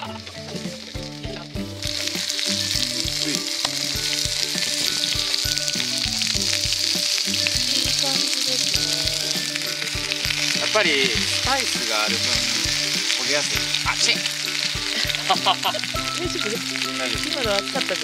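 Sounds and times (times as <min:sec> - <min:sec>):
background music: 0:00.0 - 0:18.0
chicken sizzling in frying pan: 0:00.0 - 0:18.0.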